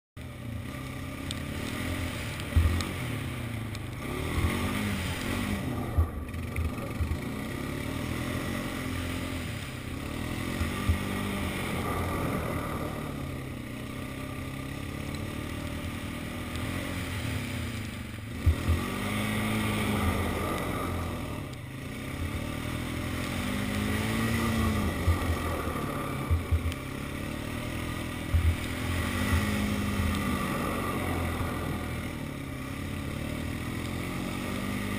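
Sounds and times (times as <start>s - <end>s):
atv engine revving: 0.2s - 34.9s.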